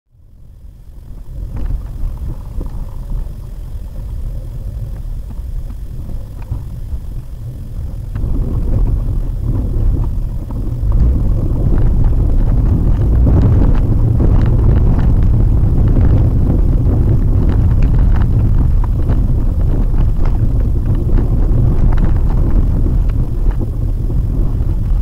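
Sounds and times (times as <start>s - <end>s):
road and engine rumble in car: 0.1s - 25.0s.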